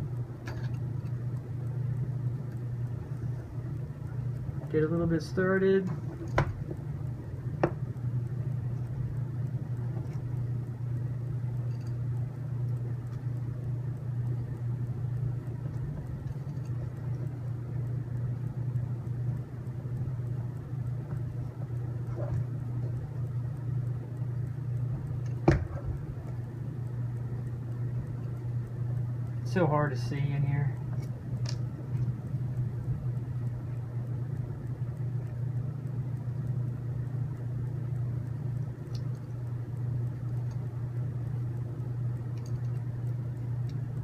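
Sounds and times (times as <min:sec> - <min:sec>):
low background hum: 0:00.0 - 0:44.0
sharp clicks: 0:00.4 - 0:44.0.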